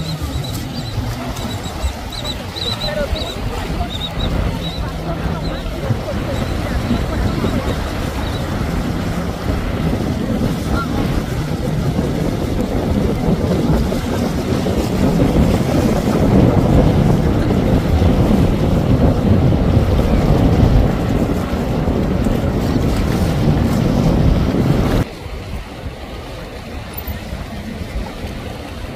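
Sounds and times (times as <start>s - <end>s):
boat engine: 0.0s - 28.9s
waves: 0.0s - 28.9s
wind on microphone: 0.0s - 28.9s.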